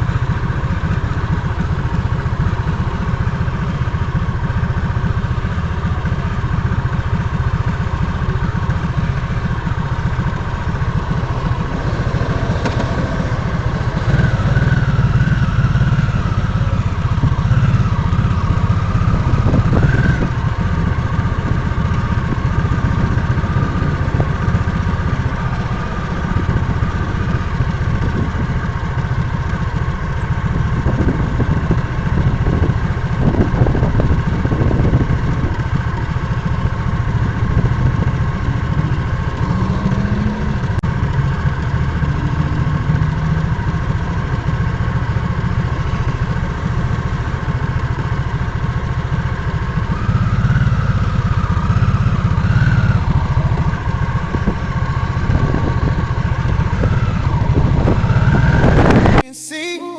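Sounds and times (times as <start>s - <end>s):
motorcycle engine low rumble: 0.0s - 59.3s.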